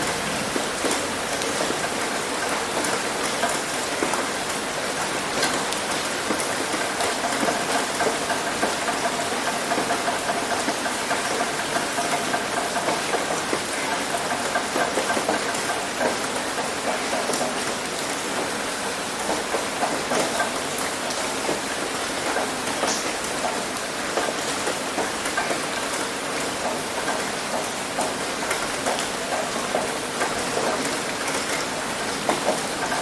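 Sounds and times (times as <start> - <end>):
heavy rain on a roof: 0.0 - 33.0.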